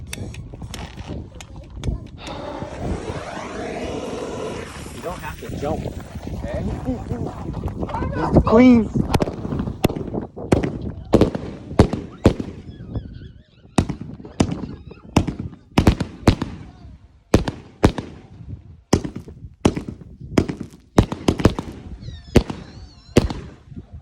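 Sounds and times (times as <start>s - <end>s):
firework bangs: 2.2s - 7.9s, 8.9s - 13.2s, 13.8s - 23.8s.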